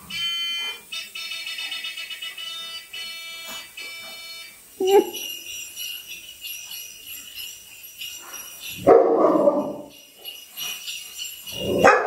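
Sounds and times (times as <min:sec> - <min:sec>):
bell-like ringing from phone speaker: 0:00.1 - 0:12.0.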